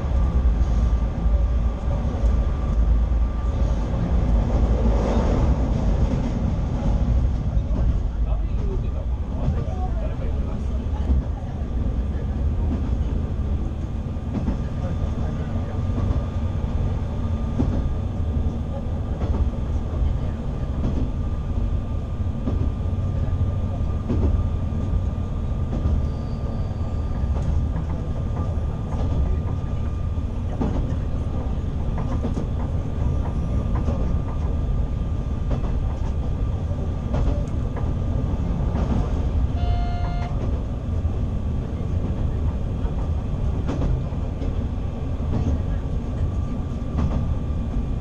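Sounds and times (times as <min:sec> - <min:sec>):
railcar engine and wheels rumbling: 0:00.0 - 0:48.0.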